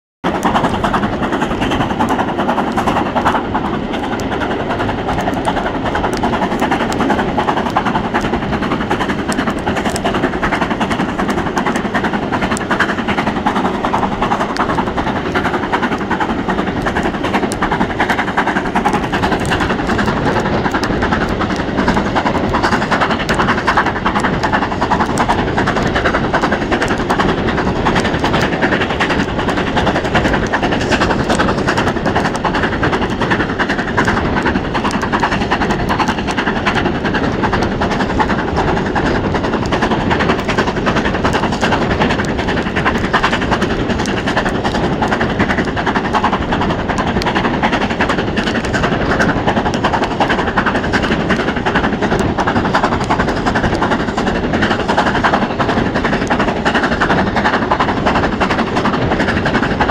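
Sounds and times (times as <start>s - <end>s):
steam locomotive exhaust beats: 0.2s - 59.9s
wind rushing over microphone: 0.2s - 59.9s.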